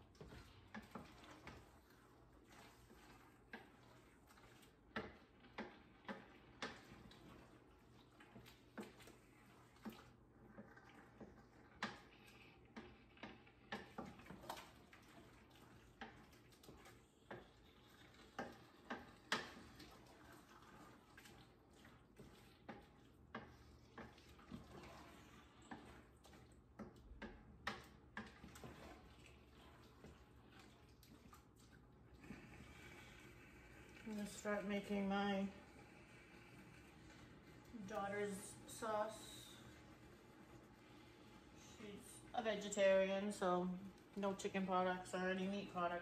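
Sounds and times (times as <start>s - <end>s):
utensil scraping a steel pot: 0.1s - 26.4s, 32.1s - 43.6s.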